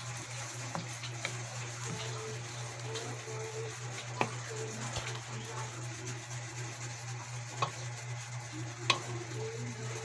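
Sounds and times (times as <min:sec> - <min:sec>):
sauce sizzling: 0:00.0 - 0:10.0
wooden spoon stirring sauce: 0:00.0 - 0:10.0.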